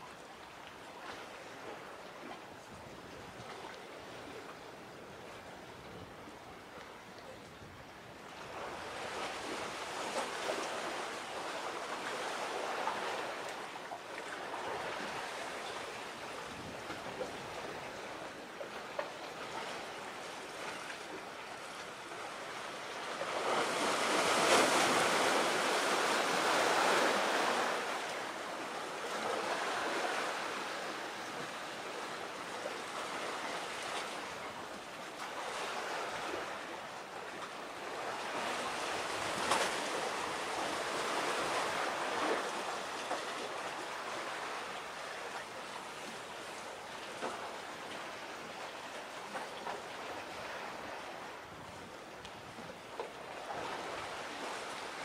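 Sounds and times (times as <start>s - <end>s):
waves washing ashore: 0.0s - 55.0s
wind: 0.0s - 55.0s.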